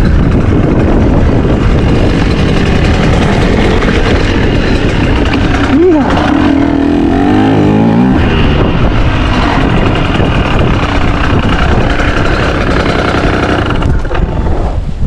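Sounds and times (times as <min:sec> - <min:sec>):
dirt bike engine: 0:00.0 - 0:15.0.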